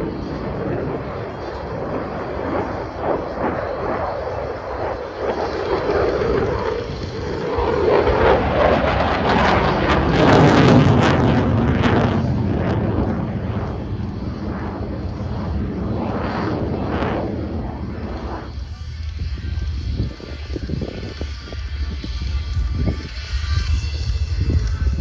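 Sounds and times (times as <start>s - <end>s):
jet fighter engine roar: 0.0s - 25.0s.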